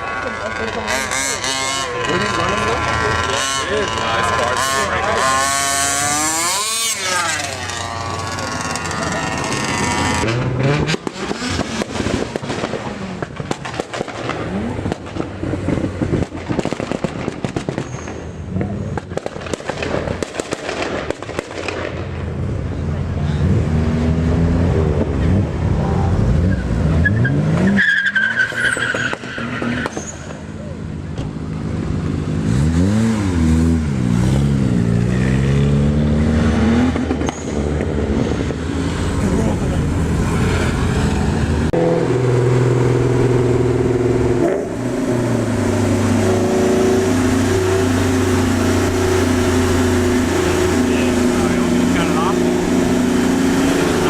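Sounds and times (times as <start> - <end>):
tires squealing: 0.0 - 16.7, 24.7 - 31.4, 32.5 - 54.0
car engine revving: 0.0 - 54.0.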